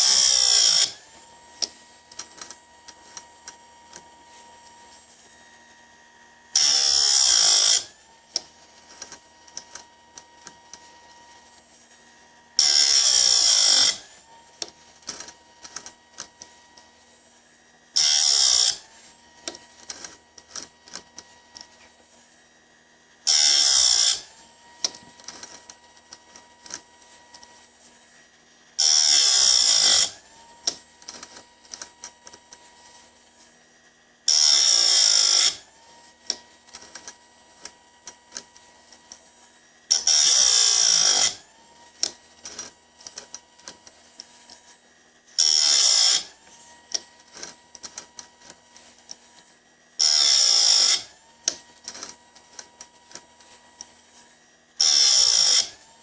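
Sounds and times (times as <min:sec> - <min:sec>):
grinding wheel on chain: 0:00.0 - 0:05.5, 0:06.5 - 0:22.1, 0:23.2 - 0:28.2, 0:28.8 - 0:33.5, 0:34.3 - 0:44.8, 0:45.4 - 0:56.0
motor humming: 0:00.0 - 0:56.0.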